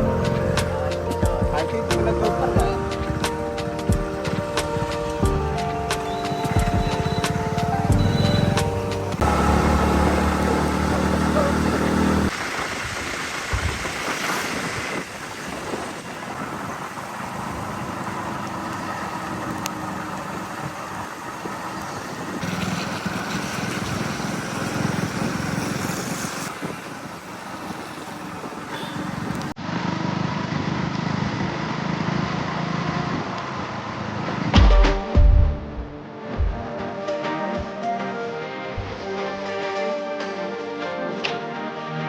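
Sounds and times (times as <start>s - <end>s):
vehicle travel rumble: 0.0s - 36.7s.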